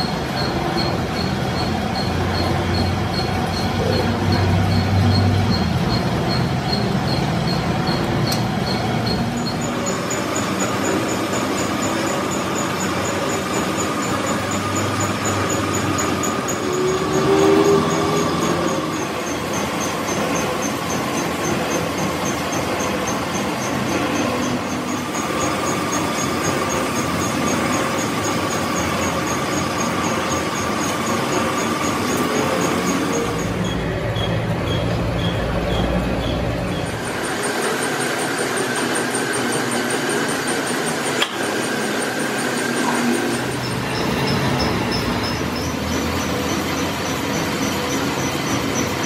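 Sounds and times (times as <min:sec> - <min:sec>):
workshop machinery humming: 0:00.0 - 0:49.0.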